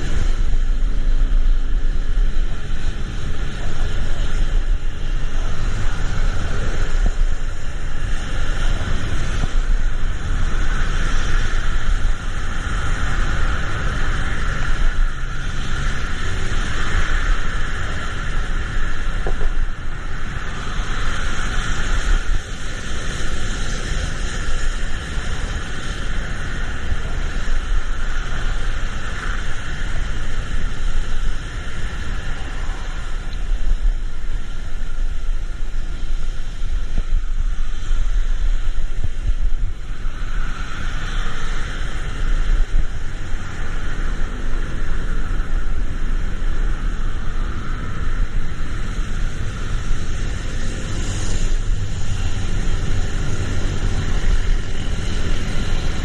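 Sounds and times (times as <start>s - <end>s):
engine and road noise rumble: 0.0s - 56.0s
rain hissing on wet road: 0.0s - 56.0s.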